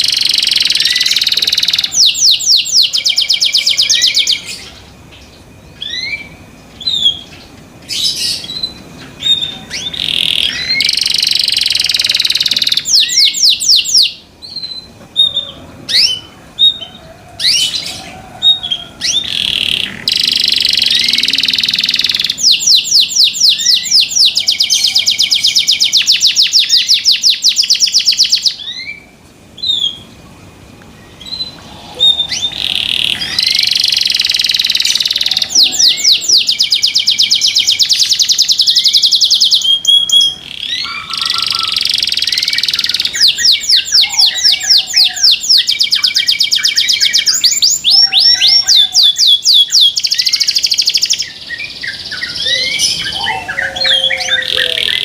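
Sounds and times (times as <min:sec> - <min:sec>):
canary singing: 0:00.0 - 0:55.0.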